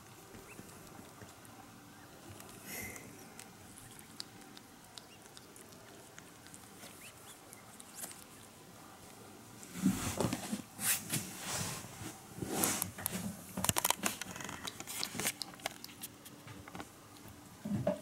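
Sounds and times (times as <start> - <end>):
kitten chewing hair rustling: 0.0 - 11.1, 12.5 - 17.5.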